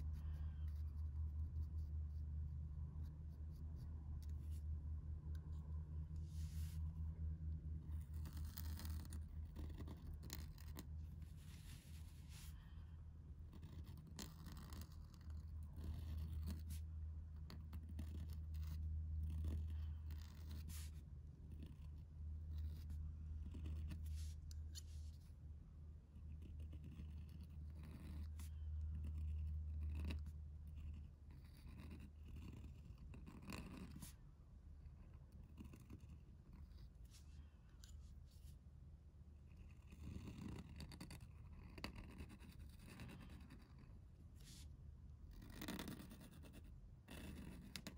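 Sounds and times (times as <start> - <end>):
pen nib scratching on paper: 0.0 - 6.8, 7.5 - 25.4, 26.0 - 34.2, 34.8 - 38.6, 39.4 - 47.9
low steady hum: 0.0 - 47.9.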